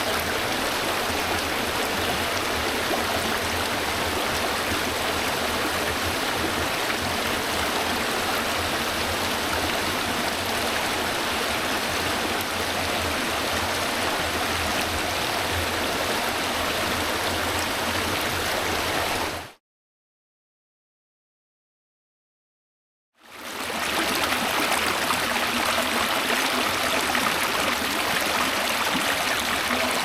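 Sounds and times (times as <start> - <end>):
stream rushing water: 0.0 - 19.5, 23.3 - 30.0.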